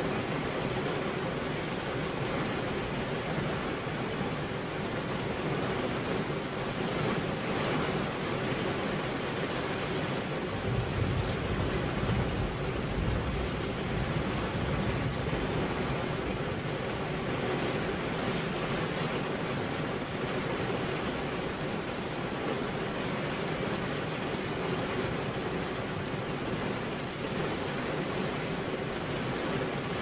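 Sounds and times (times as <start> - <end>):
rain on car window: 0.0 - 30.0.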